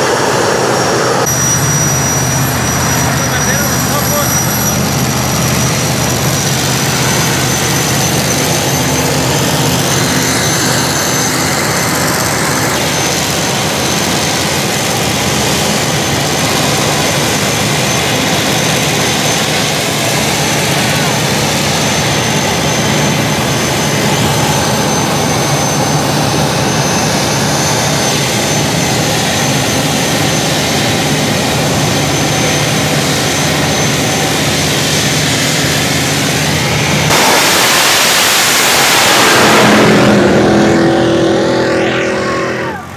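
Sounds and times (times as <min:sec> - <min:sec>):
jet turbine engine whine: 0:00.0 - 0:42.9.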